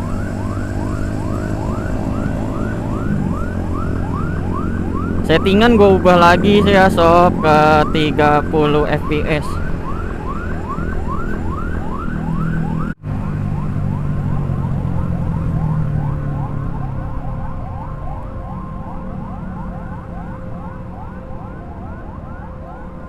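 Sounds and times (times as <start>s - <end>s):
motorcycle engine rumble: 0.0s - 23.0s
siren in a fast yelp: 0.0s - 23.0s.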